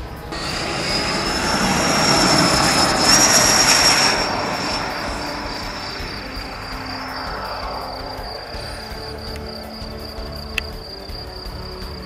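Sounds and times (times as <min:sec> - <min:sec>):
electric ducted fan whine: 0:00.0 - 0:10.9.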